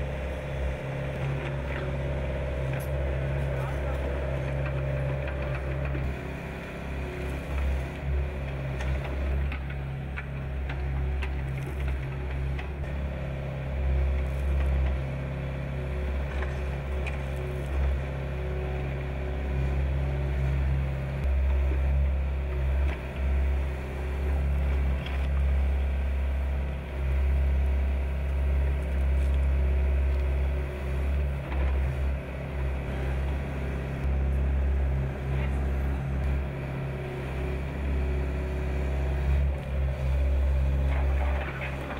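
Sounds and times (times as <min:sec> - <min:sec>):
excavator diesel engine droning: 0:00.0 - 0:41.9.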